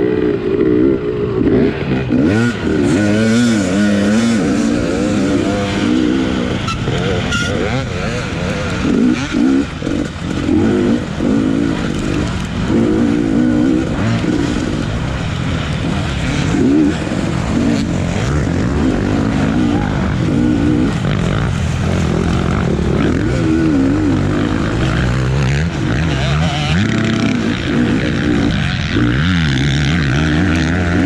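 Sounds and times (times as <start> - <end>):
constant rushing noise: 0.0 - 31.0
motocross bike engine revving: 0.0 - 31.0.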